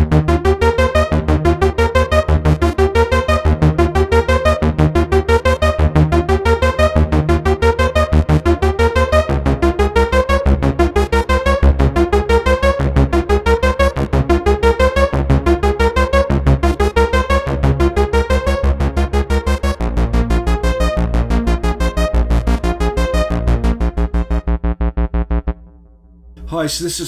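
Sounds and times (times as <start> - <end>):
synthesizer arpeggio: 0.0 - 25.8
synth bass line: 0.0 - 26.6.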